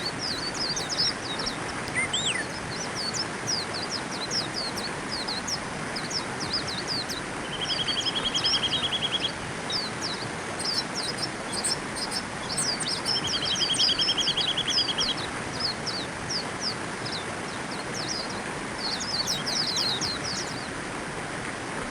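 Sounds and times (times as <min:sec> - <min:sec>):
bird trill: 0:00.0 - 0:20.7
birds chirping: 0:00.0 - 0:20.8
steady rushing noise: 0:00.0 - 0:21.9.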